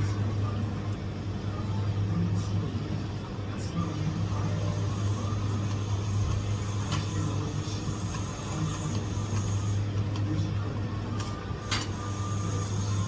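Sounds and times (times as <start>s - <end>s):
welding equipment humming: 0.0s - 13.0s.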